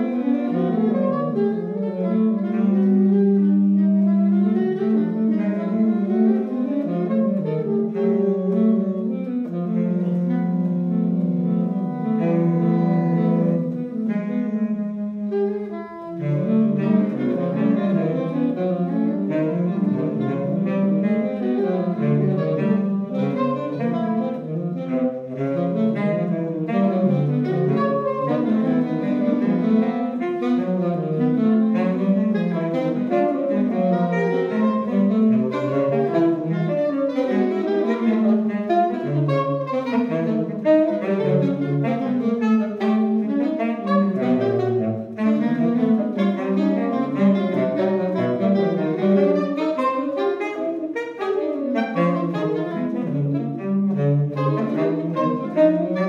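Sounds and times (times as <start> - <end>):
saxophones improvising together: 0.0 - 56.0.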